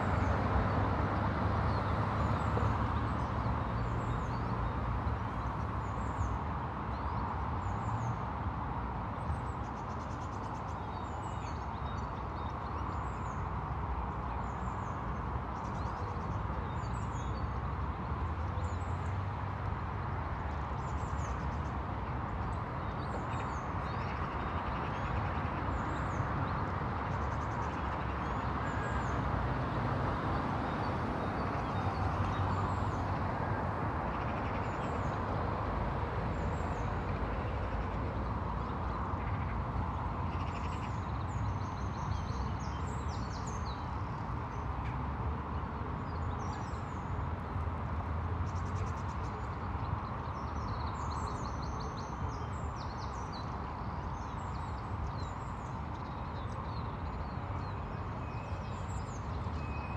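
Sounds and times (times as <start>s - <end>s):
distant road traffic hum: 0.0s - 59.9s.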